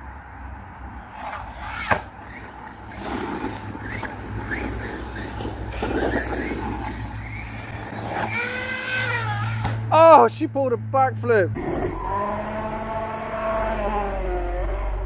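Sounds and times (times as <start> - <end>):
drivetrain and tyres scrabbling: 0.7 - 15.0
rc truck motor whining: 1.1 - 9.9, 11.6 - 15.0.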